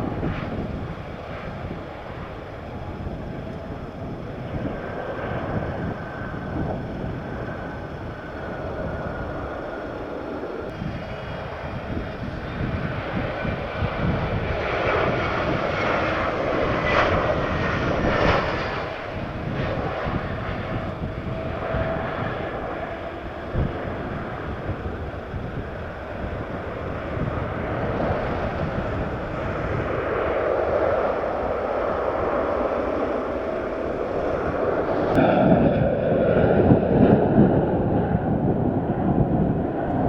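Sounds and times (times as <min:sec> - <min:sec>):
jet engines roaring: 0:00.0 - 0:40.0.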